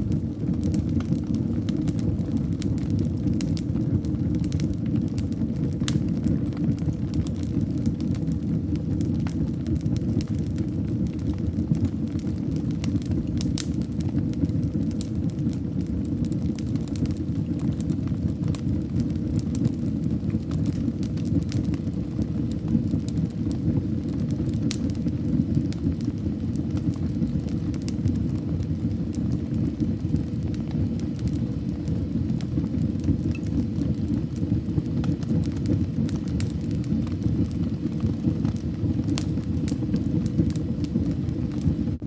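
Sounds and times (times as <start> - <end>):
fire crackles and pops: 0.0 - 42.0
fire flames rumbling: 0.0 - 42.0.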